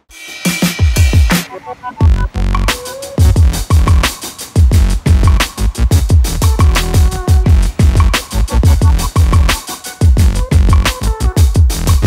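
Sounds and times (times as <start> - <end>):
electronic music with fast drum beat: 0.0 - 12.0.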